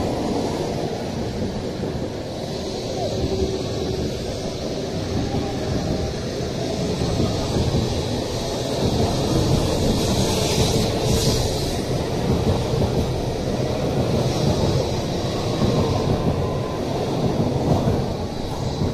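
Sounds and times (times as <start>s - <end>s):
train rolling past: 0.0s - 18.9s.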